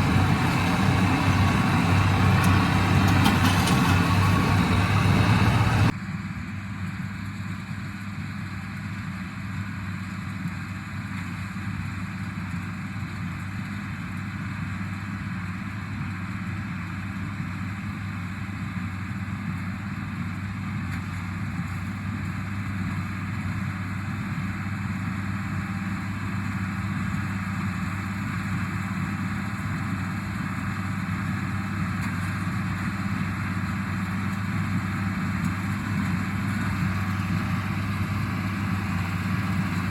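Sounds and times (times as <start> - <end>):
tractor diesel engine running: 0.0 - 6.0, 13.6 - 39.9.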